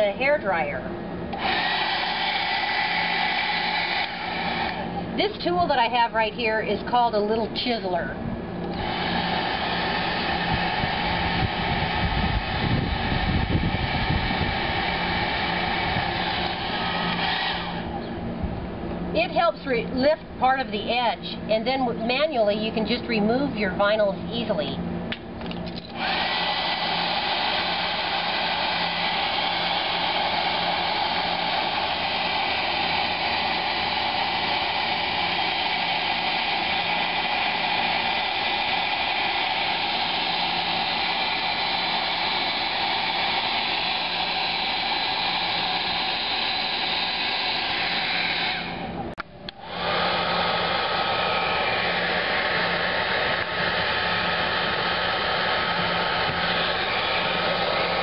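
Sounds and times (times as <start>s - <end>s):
hair dryer blowing: 0.0s - 7.9s, 8.5s - 18.2s, 25.8s - 58.0s.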